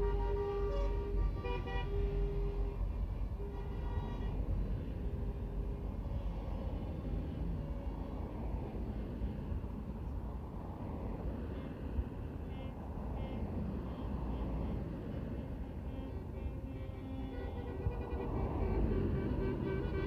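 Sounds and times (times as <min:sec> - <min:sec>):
lorries and traffic driving past: 0:00.0 - 0:20.0.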